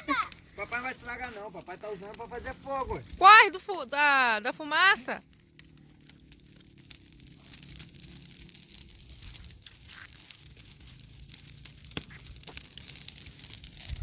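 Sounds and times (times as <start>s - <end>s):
bonfire crackling: 0.0s - 14.0s.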